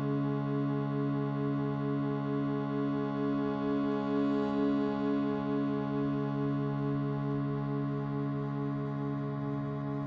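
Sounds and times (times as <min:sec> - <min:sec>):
free-reed instrument drone chord: 0:00.0 - 0:10.0.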